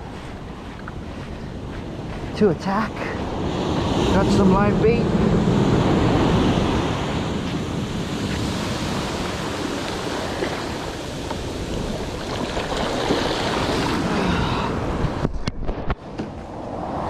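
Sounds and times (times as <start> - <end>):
ocean surf on shore: 0.0 - 17.0
wind buffeting microphone: 0.0 - 17.0.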